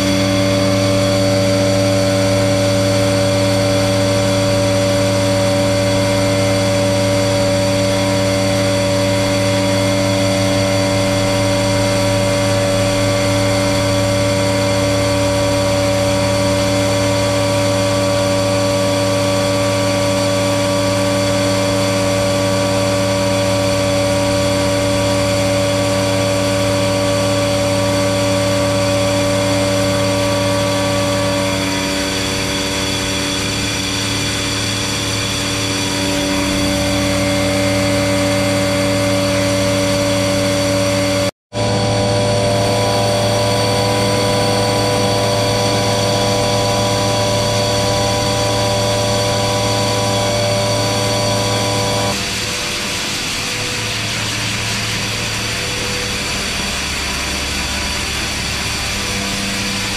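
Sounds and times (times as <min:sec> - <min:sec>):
grain vacuum humming: 0:00.0 - 0:59.9.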